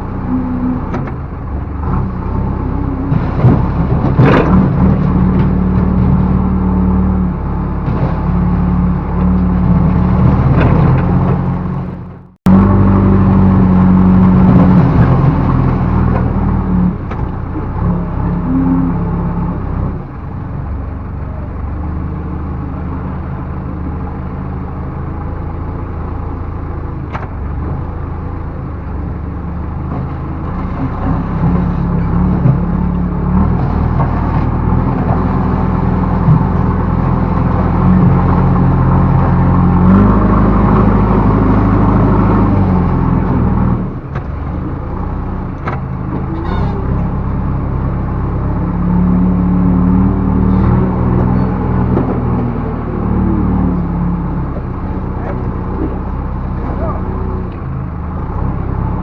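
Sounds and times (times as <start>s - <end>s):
diesel engine working under load: 0.0s - 59.0s.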